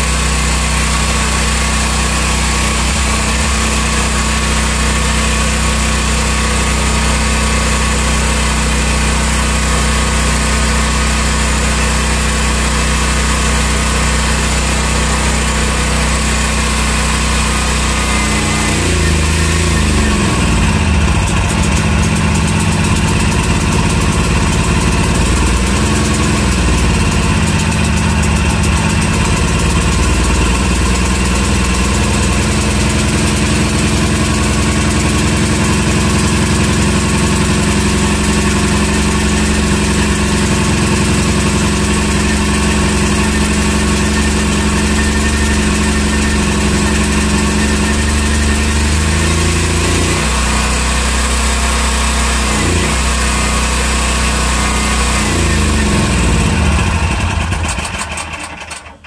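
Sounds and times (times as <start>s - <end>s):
portable generator running: 0.0s - 59.0s.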